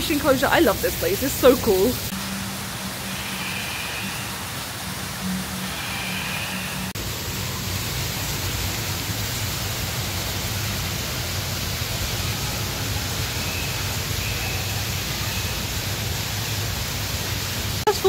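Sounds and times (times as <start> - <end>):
waterfall streaming: 0.0 - 18.0.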